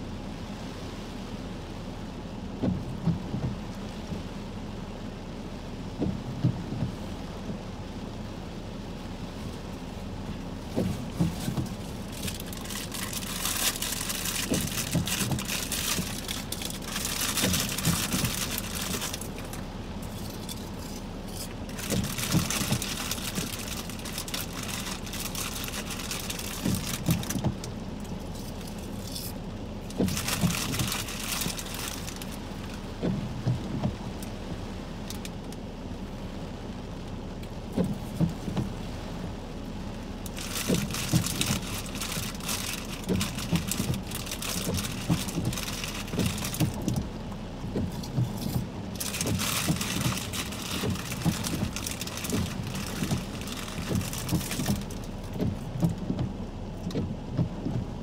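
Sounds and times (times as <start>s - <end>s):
heavy rain falling: 0.0s - 58.0s
raindrops tapping near microphone: 0.0s - 58.0s.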